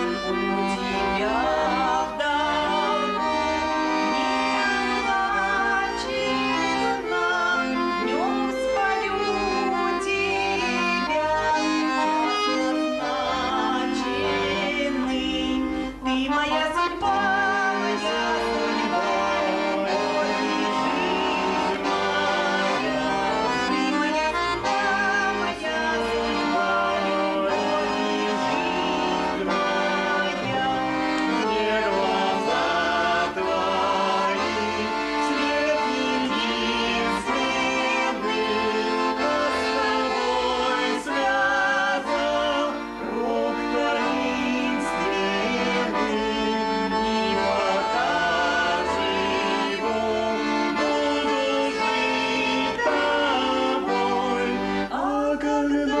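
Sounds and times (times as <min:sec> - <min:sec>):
lively accordion folk music: 0:00.0 - 0:56.0
person singing: 0:00.0 - 0:56.0.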